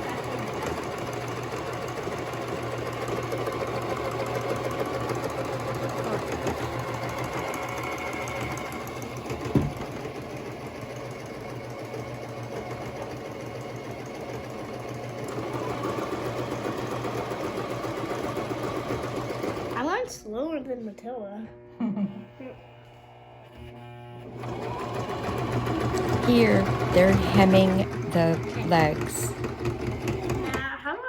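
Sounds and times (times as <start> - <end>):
sewing machine stitching: 0.0 - 20.0, 24.2 - 30.8.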